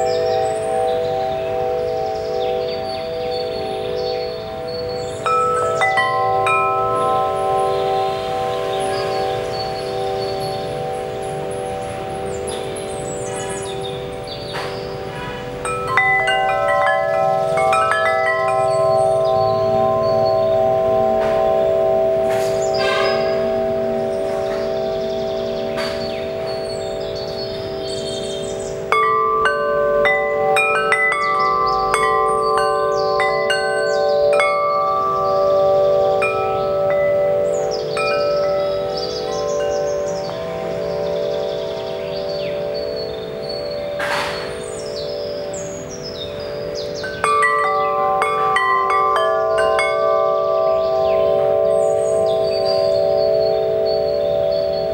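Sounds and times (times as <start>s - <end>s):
striker hitting chime tubes: 0.0s - 54.9s
wind chime ringing: 0.0s - 54.9s.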